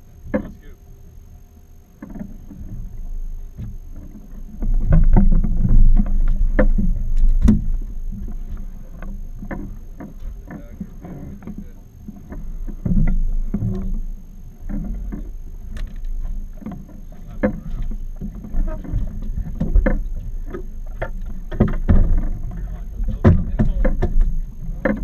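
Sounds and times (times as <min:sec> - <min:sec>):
steady low rumble: 0:00.0 - 0:25.0
clunks and knocks on boat deck: 0:03.6 - 0:14.0, 0:14.6 - 0:25.0.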